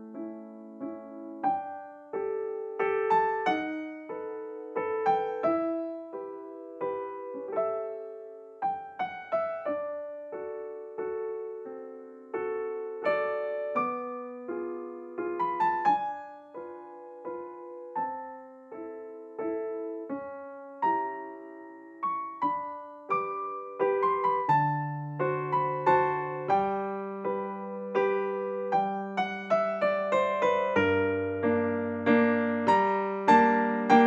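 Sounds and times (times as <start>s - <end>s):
gentle piano melody: 0.0s - 34.0s.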